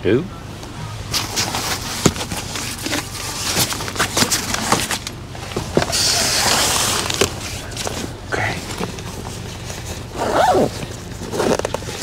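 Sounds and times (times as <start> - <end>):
rustling: 1.0 - 12.0.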